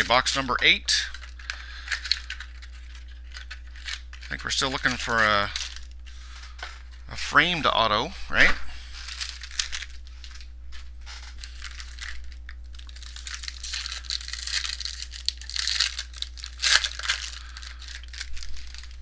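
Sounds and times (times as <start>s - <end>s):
wrapper crinkling and tearing: 0.0s - 7.0s, 9.0s - 19.0s.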